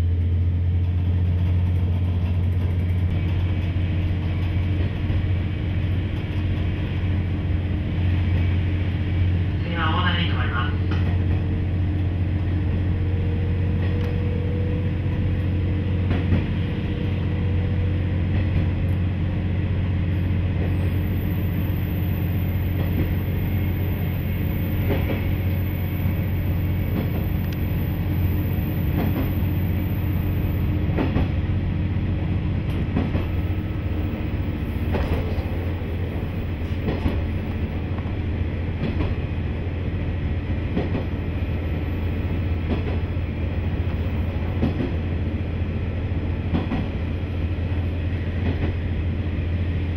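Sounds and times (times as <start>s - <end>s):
railcar engine drone: 0.0s - 49.9s.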